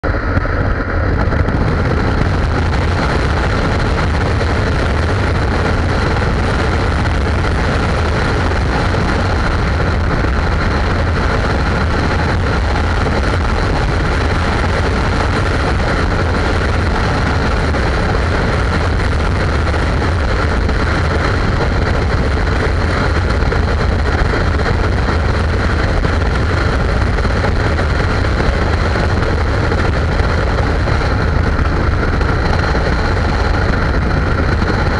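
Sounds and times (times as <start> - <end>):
motorcycle engine drone: 0.0 - 34.9
road noise: 0.0 - 34.9
wind rush: 0.0 - 34.9.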